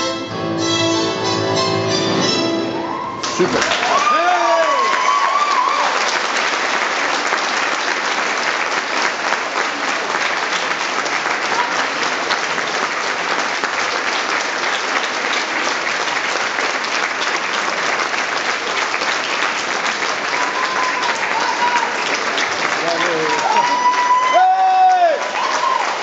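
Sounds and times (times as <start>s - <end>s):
audience clapping: 3.2s - 26.0s.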